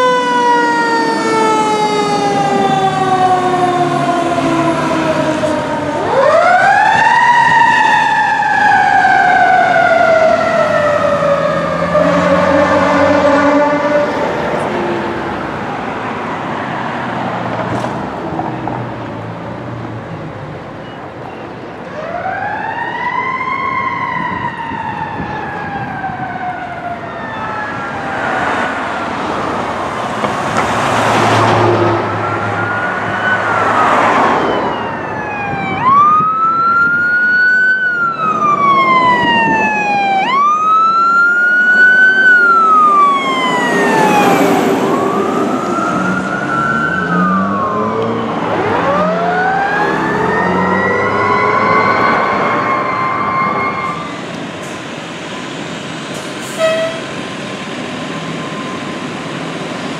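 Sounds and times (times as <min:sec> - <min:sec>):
engine and road noise: 0:00.0 - 0:59.9
fire truck siren wailing: 0:00.0 - 0:59.9.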